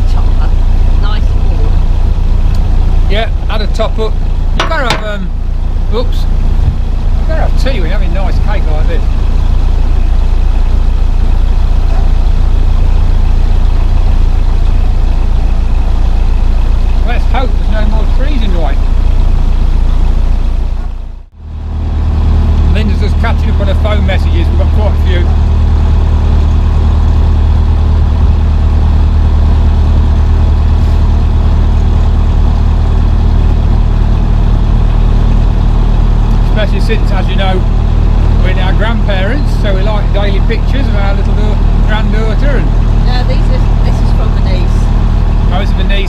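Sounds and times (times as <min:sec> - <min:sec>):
boat diesel engine droning: 0:00.0 - 0:46.0.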